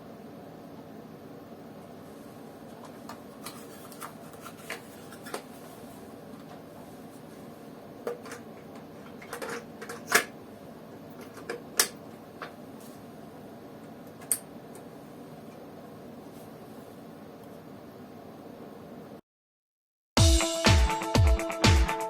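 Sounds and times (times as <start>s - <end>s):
low hum and hiss: 0.0s - 19.2s.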